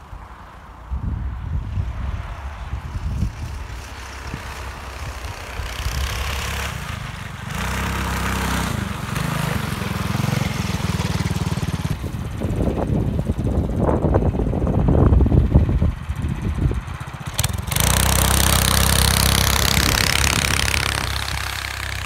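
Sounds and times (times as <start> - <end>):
snowbike engine passing by: 0.0 - 22.0.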